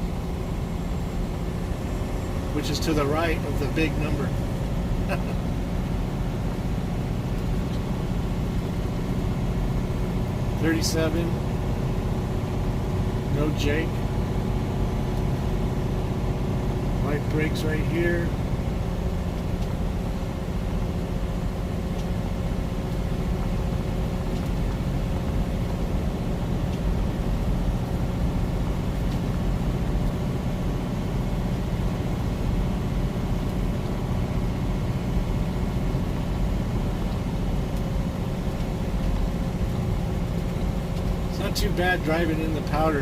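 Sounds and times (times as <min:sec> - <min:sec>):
truck engine drone: 0:00.0 - 0:43.0
tyres on snowy road: 0:00.0 - 0:43.0.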